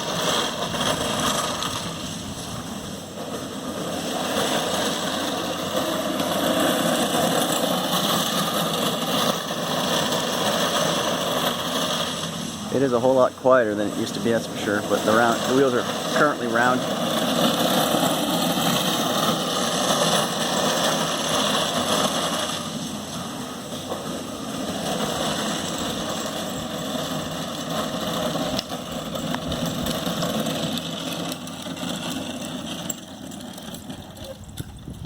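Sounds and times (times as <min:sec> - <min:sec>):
plastic wheels grinding on concrete: 0:00.0 - 0:35.0.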